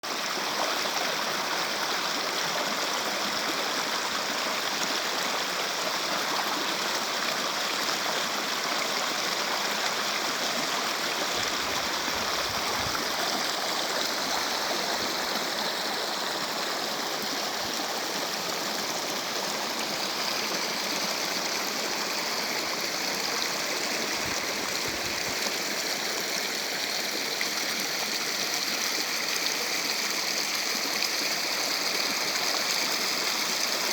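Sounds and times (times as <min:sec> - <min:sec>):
stream rushing and gurgling: 0:00.1 - 0:33.9.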